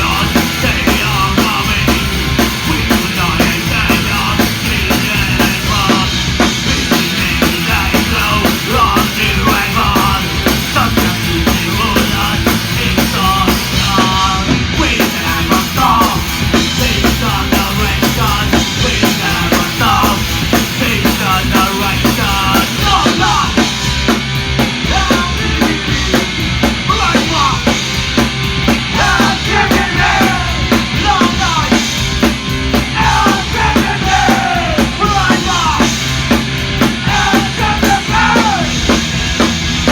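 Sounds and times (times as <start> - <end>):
driving drum kit: 0.0 - 39.9
punk rock music: 0.0 - 39.9.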